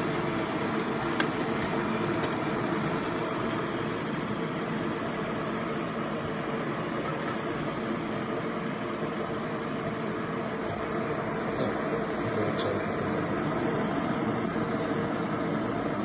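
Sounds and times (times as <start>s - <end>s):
electric kettle heating water: 0.0s - 16.0s.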